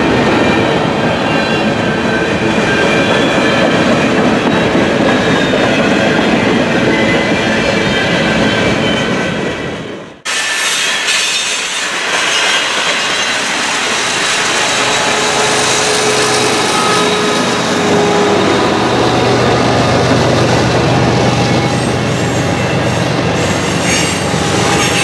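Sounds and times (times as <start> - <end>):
diesel locomotive engine hum: 0.0 - 25.0
train wheels on rails: 0.0 - 25.0.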